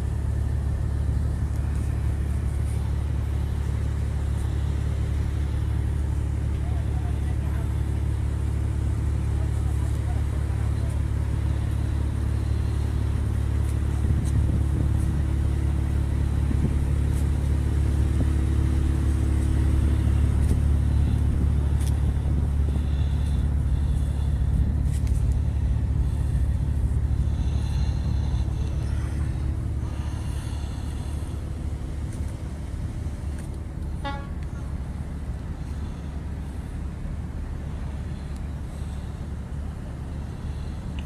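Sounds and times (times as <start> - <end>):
large engine rumbling: 0.0 - 41.0.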